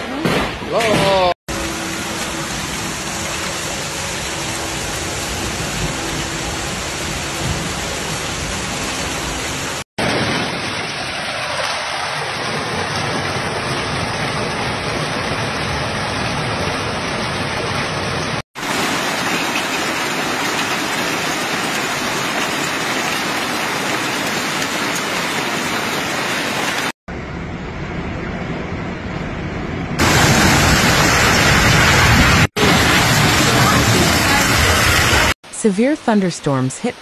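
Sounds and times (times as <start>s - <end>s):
heavy rain downpour: 0.0s - 27.0s, 30.0s - 37.0s.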